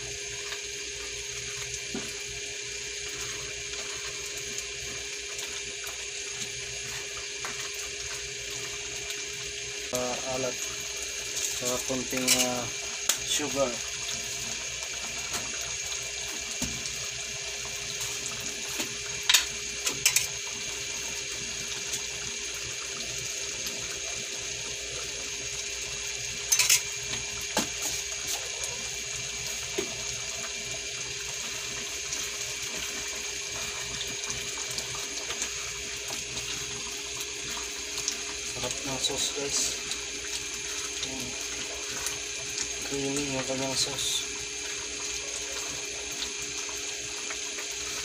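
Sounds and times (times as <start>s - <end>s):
sauce simmering hiss: 0.0s - 48.0s.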